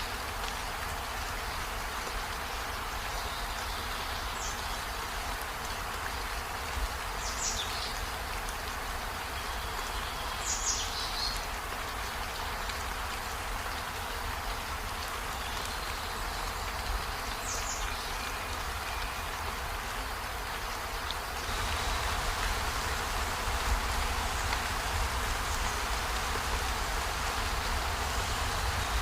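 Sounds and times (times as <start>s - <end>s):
rain on trees and window: 0.0s - 29.0s.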